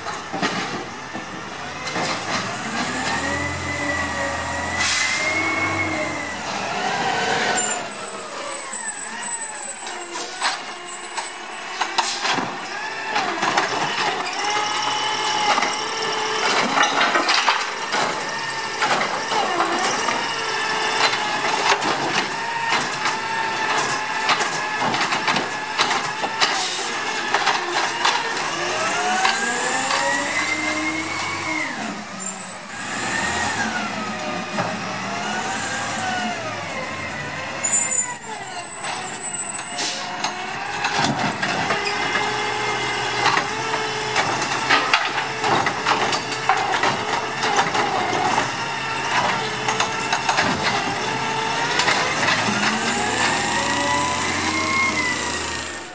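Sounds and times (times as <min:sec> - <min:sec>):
garbage truck engine revving: 0:00.1 - 0:55.9
brake squeal: 0:02.0 - 0:24.8, 0:26.4 - 0:45.1, 0:46.0 - 0:55.9.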